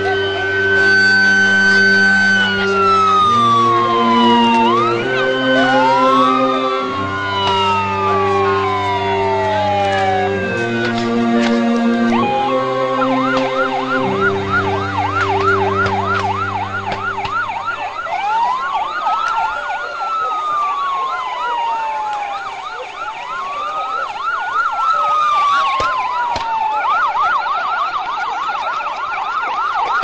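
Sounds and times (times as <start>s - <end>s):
siren wail: 0.0s - 30.0s
siren yelp: 0.0s - 30.0s.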